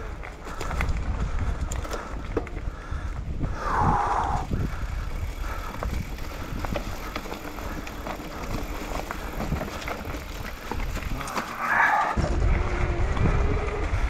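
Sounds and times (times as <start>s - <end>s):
bike clicks and rattles: 0.0s - 14.0s
bike tyres crunching over stones: 0.0s - 14.0s.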